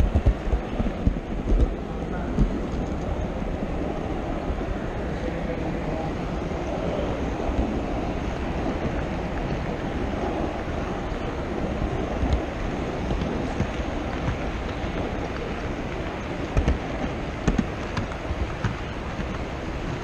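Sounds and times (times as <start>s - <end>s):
model train wheels rumbling on rails: 0.0s - 20.0s.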